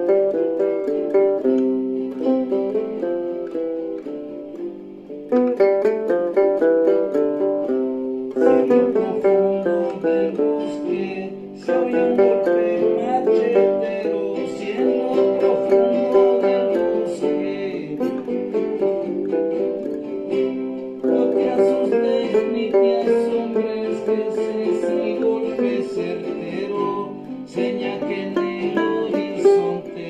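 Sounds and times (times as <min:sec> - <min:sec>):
plucked string melody: 0:00.0 - 0:30.0.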